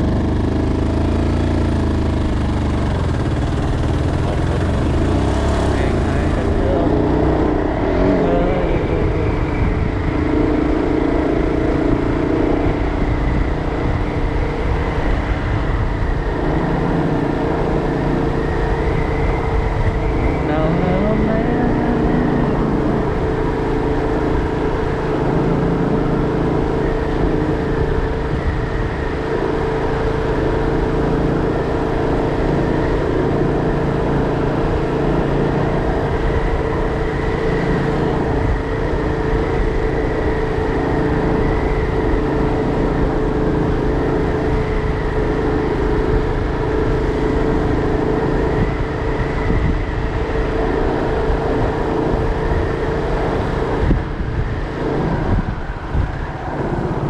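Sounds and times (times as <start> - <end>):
road and wind rumble: 0.0 - 57.0
vehicle engine running: 0.0 - 57.0.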